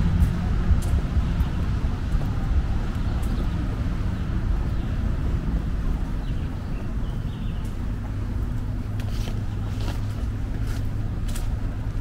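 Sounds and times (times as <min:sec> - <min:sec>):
traffic rumble: 0:00.0 - 0:12.0
wind buffeting the microphone: 0:00.0 - 0:12.0.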